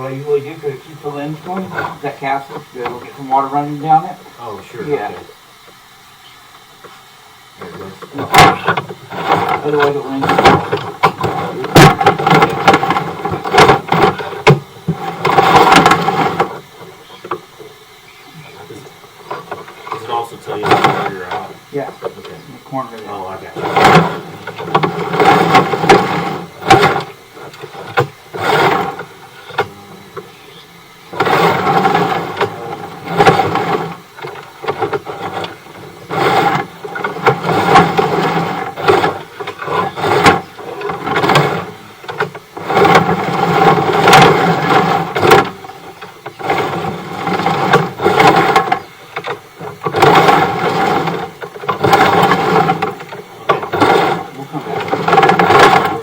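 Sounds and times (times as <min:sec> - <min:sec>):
cable feeder rattling whir: 0:00.0 - 0:56.0.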